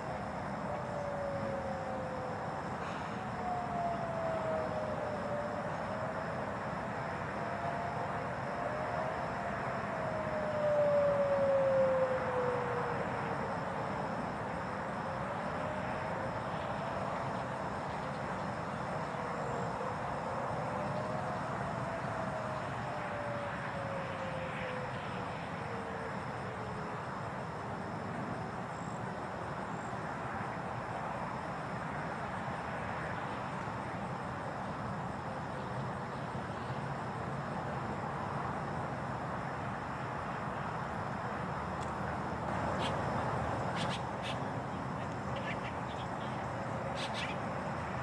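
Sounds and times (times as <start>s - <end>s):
distant warning sirens: 0.0s - 48.0s
outdoor background noise: 0.0s - 48.0s.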